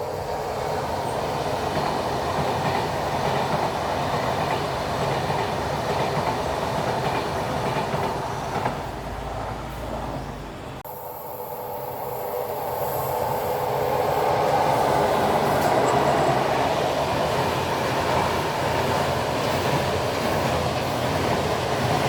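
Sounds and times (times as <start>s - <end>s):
train wheels rolling on track: 0.0s - 22.0s.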